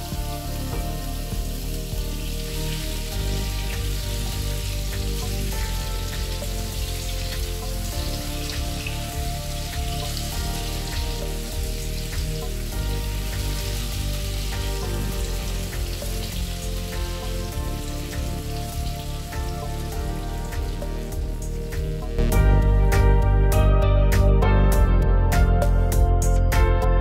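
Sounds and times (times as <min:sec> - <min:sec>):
hot oil sizzling and crackling: 0:00.0 - 0:22.4
background music: 0:00.0 - 0:27.0.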